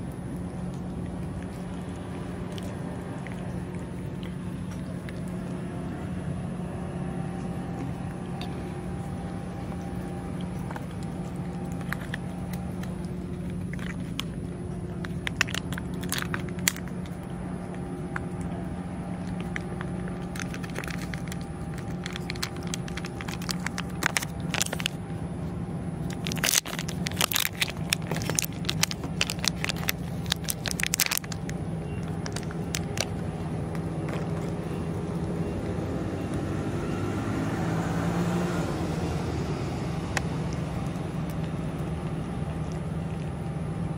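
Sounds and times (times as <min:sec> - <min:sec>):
cat chewing and crunching: 0:00.0 - 0:43.9
low hum: 0:00.0 - 0:43.9.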